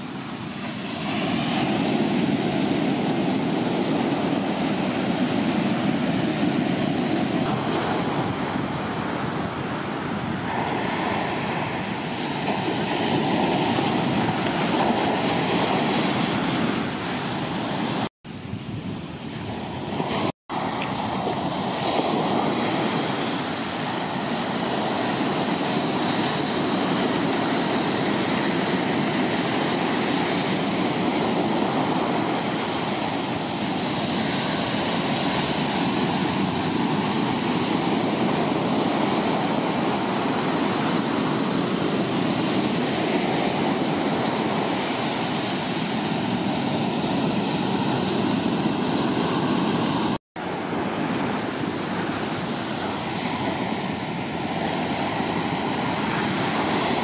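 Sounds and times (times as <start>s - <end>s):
surf breaking on beach: 0.0s - 57.0s.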